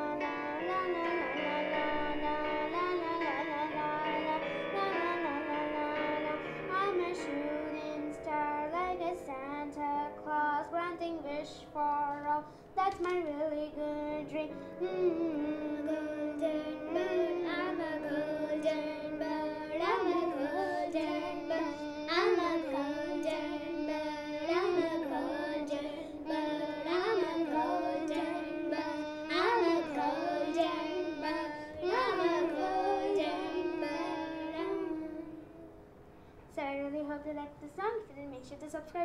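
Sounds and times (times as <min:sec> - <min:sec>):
child singing wordless melody: 0:00.0 - 0:35.7, 0:36.5 - 0:39.0.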